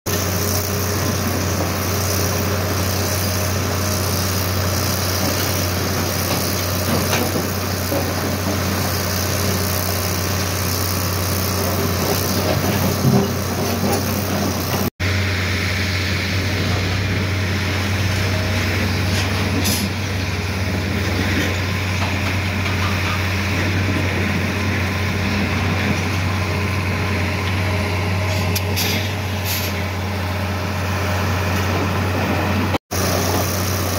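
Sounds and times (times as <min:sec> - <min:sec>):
excavator diesel engine humming: 0:00.1 - 0:33.9.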